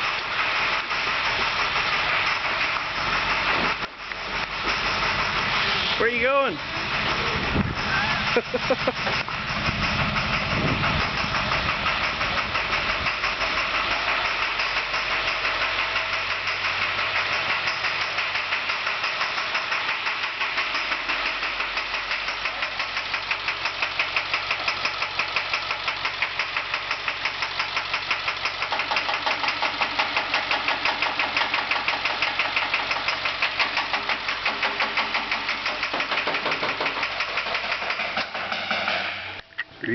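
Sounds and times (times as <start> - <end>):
diesel engine idling: 0.0 - 39.9
rhythmic engine knocking: 0.0 - 39.9.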